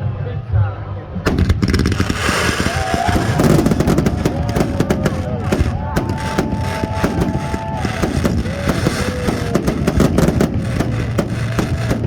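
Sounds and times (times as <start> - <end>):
fireworks bangs and crackles: 1.3 - 12.0
fireworks whistling: 1.3 - 12.0.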